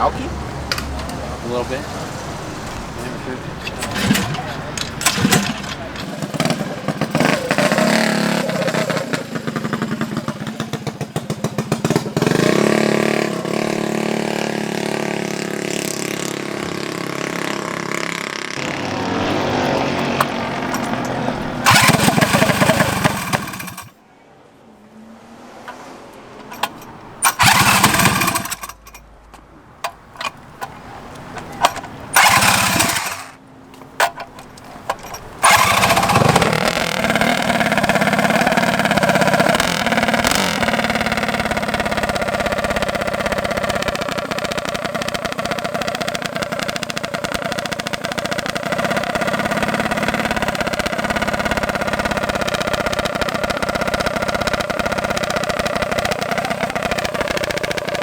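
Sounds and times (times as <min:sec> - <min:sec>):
small engine running: 0:02.5 - 0:24.0, 0:26.5 - 0:29.0, 0:31.3 - 0:33.4, 0:34.0 - 0:58.0.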